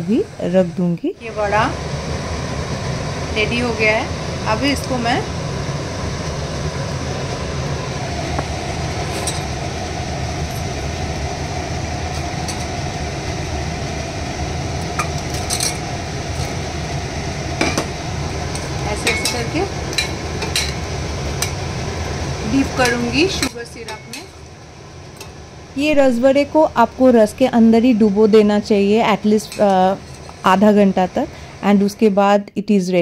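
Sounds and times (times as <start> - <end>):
steady low hum: 0.0 - 32.4.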